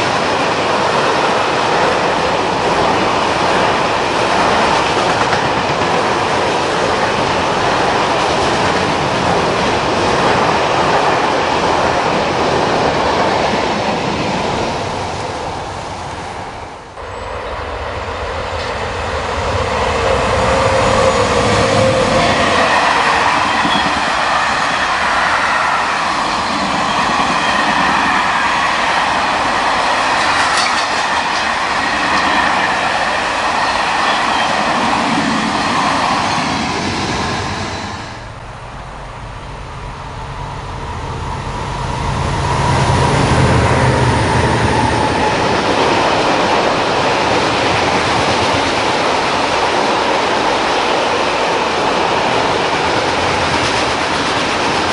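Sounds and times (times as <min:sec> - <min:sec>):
diesel locomotive engine hum: 0:00.0 - 0:54.9
train wheels on rails: 0:00.0 - 0:54.9.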